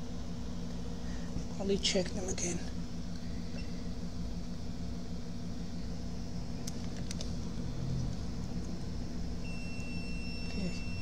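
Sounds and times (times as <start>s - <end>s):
low hum of fan or motor: 0.0s - 11.0s.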